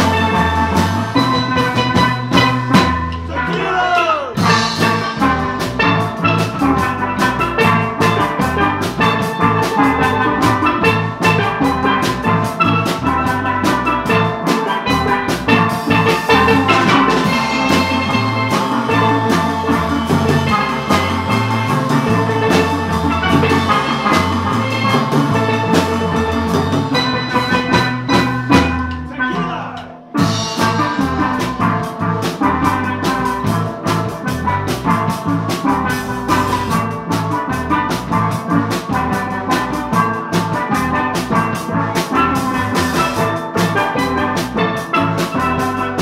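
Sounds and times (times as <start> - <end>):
drum kit: 0.0 - 46.0
electric bass guitar: 0.0 - 46.0
steel pans struck with mallets: 0.0 - 46.0.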